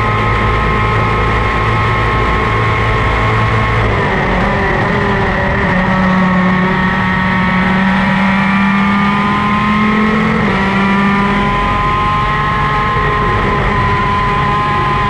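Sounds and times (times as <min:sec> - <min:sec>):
kart engine accelerating: 0:00.0 - 0:15.0.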